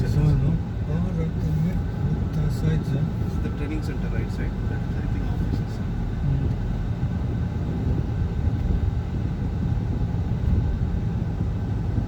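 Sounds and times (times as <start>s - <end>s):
car cabin road noise: 0.0s - 12.0s.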